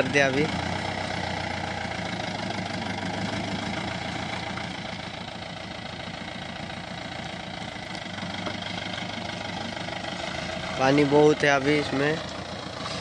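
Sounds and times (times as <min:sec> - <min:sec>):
vehicle engine at low revs: 0:00.0 - 0:13.0.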